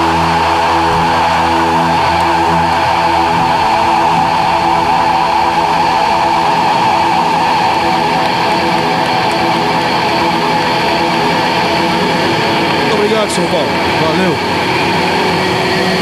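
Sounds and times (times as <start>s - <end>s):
distorted electric guitars: 0.0s - 16.0s.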